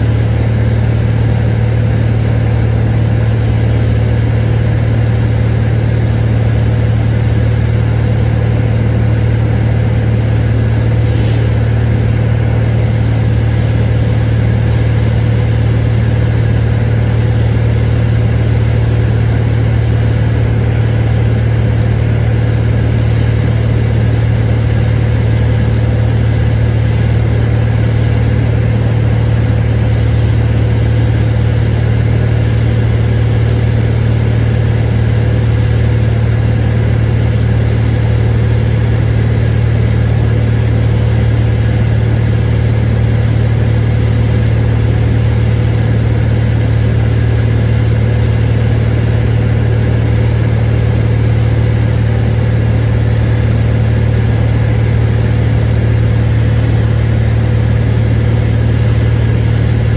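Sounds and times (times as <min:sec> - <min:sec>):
airplane engine and propeller drone: 0:00.0 - 0:59.9.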